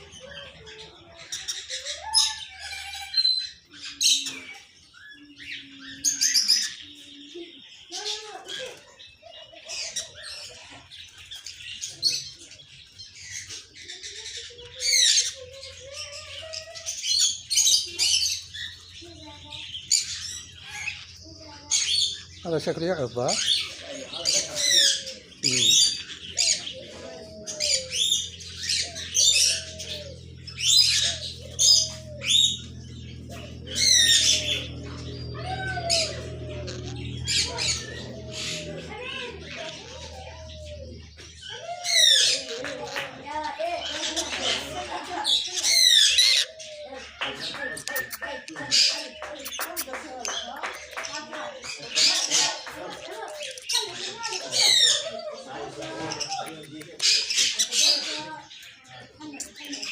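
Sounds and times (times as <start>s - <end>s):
parakeet squawking and chirping: 7.9s - 59.9s.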